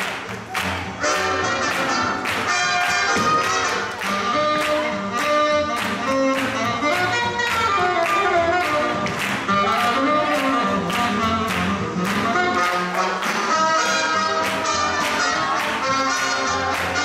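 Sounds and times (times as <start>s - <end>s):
instrumental swing jazz: 0.6s - 17.0s.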